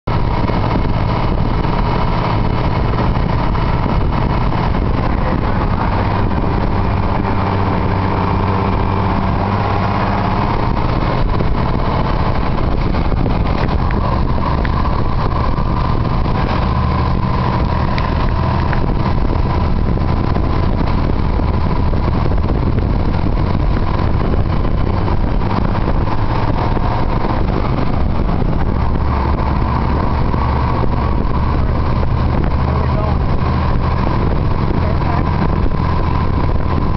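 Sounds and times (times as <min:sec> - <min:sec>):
fire engine engine running: 0:00.0 - 0:36.9
road and wind noise: 0:00.0 - 0:36.9.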